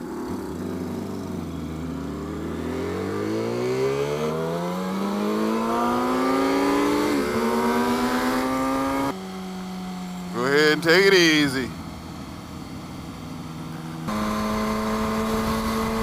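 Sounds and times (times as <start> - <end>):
motorcycle engine revving up: 0.0 - 11.6, 13.8 - 16.0.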